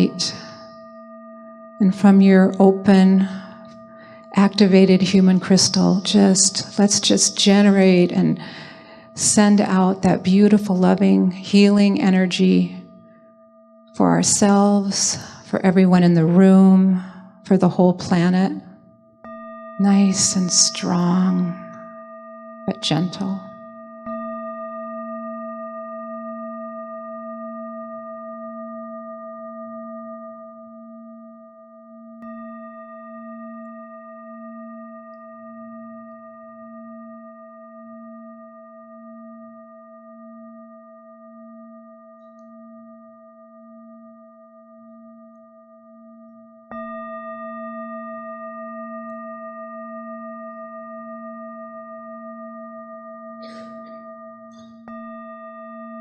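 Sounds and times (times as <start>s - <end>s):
singing bowl ringing: 0.0s - 56.0s.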